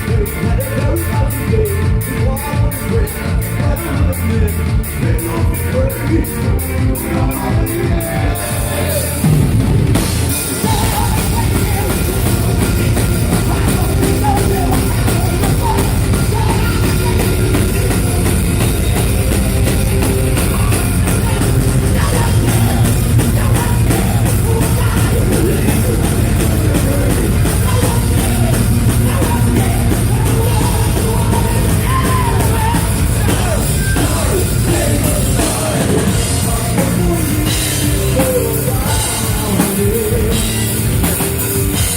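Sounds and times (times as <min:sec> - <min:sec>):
person singing: 0:00.0 - 0:09.5, 0:10.4 - 0:41.9
distorted guitars: 0:00.0 - 0:41.9
pounding drum kit: 0:00.0 - 0:41.9.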